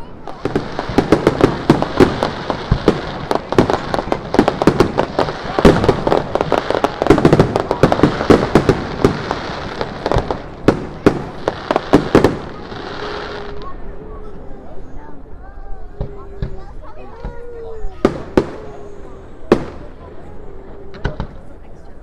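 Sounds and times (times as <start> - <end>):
fireworks bangs and crackles: 0.0 - 14.1, 15.9 - 22.0.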